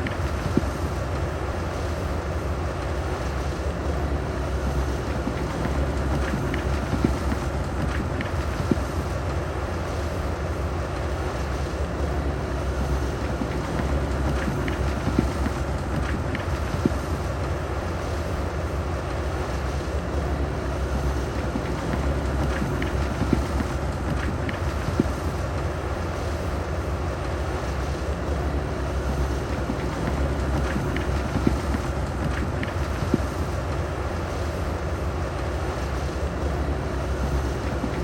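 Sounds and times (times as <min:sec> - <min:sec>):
bulldozer diesel engine rumbling: 0:00.0 - 0:38.0.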